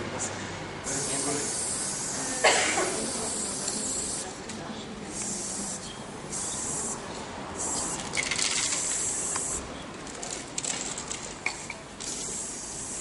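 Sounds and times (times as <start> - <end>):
spray paint cans hissing: 0.8 - 4.4, 5.1 - 13.0.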